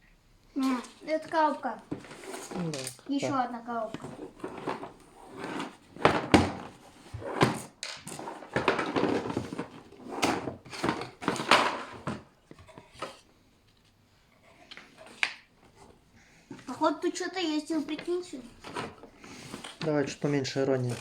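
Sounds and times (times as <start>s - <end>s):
cardboard scraping and rustling: 0.6s - 13.3s, 14.4s - 21.0s.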